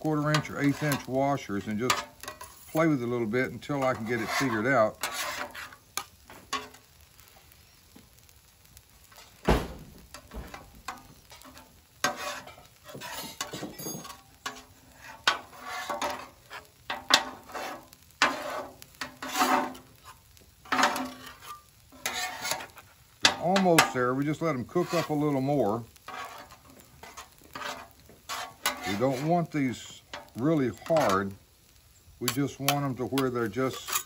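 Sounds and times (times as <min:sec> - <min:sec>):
eggs sizzling: 0:00.0 - 0:34.0
metal spatulas scraping griddle: 0:00.2 - 0:06.8, 0:10.1 - 0:31.3, 0:32.3 - 0:34.0.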